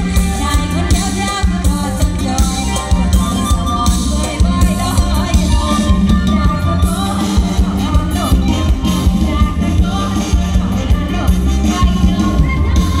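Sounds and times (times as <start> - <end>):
live band music: 0.0 - 13.0
person singing: 0.0 - 13.0.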